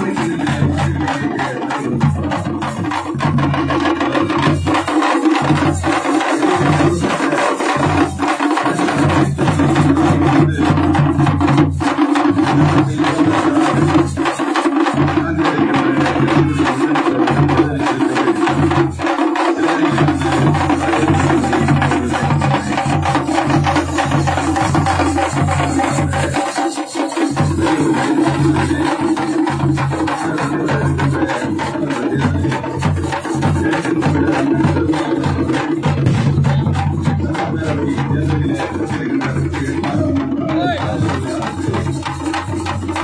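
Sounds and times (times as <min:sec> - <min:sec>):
deep barrel drum beats: 0:00.0 - 0:43.0
frame drums beaten with sticks: 0:00.0 - 0:43.0.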